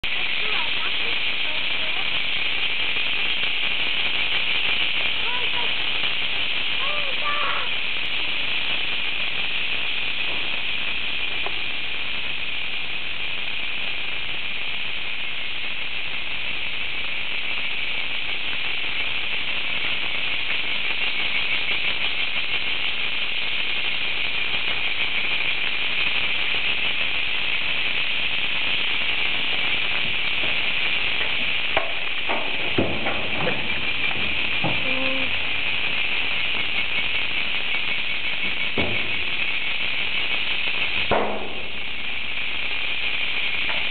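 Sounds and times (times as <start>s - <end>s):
cicadas buzzing: 0.0s - 12.7s, 19.5s - 43.9s.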